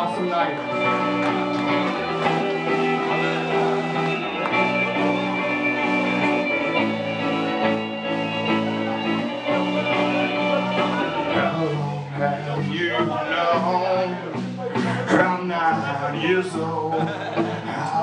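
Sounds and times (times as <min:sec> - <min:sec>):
live band with electric guitars: 0:00.0 - 0:18.0.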